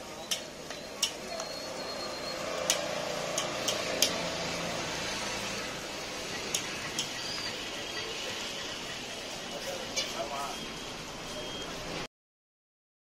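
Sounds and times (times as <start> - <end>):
steady background noise: 0.0 - 12.1.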